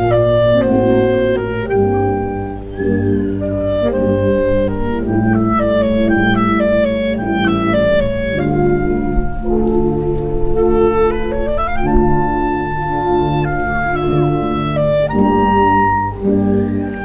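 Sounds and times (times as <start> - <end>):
concert wind band playing: 0.0 - 17.0.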